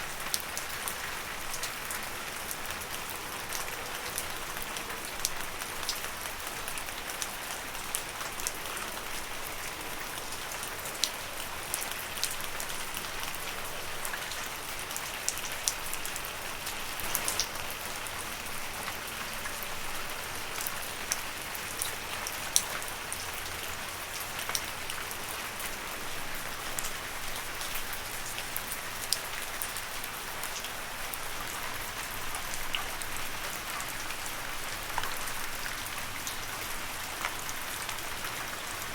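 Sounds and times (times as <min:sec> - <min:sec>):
gentle rain on leaves: 0:00.0 - 0:38.9
sharp ticking raindrops: 0:00.0 - 0:38.9.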